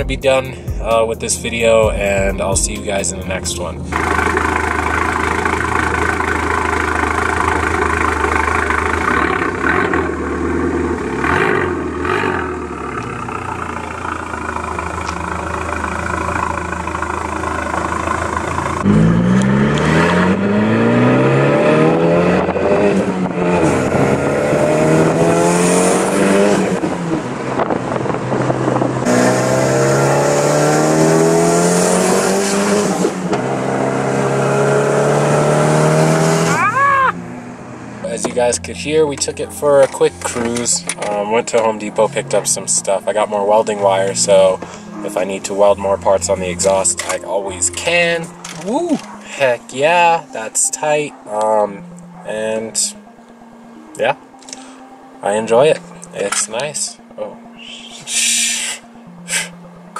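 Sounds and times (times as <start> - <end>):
car engine idling and accelerating: 0.0 - 59.9.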